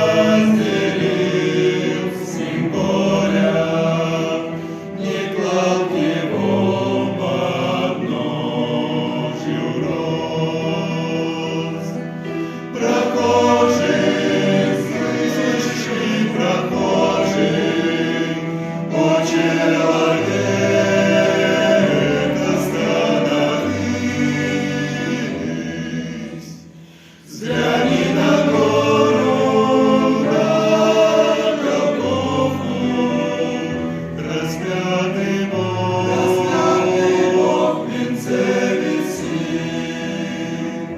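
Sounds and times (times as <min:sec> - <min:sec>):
men singing a hymn: 0:00.0 - 0:40.9.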